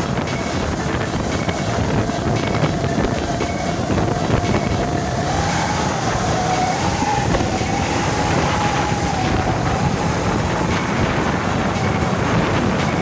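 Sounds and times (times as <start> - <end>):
heavy truck engine rumble: 0.0 - 13.0
steady whining tone: 0.0 - 13.0.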